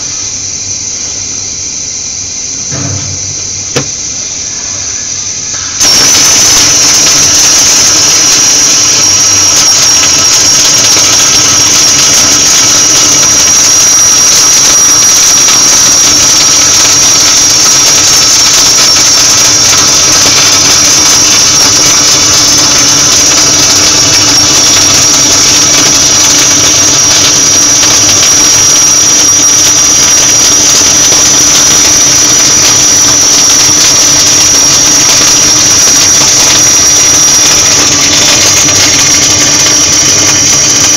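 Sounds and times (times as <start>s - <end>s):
high-pitched whine: 0.0s - 40.9s
welding arc crackle: 5.8s - 40.9s.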